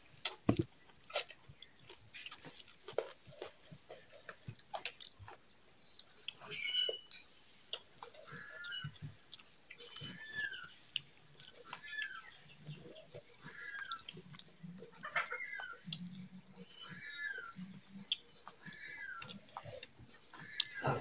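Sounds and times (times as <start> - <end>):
people chewing: 0.0 - 21.0
bird chirping: 0.8 - 21.0.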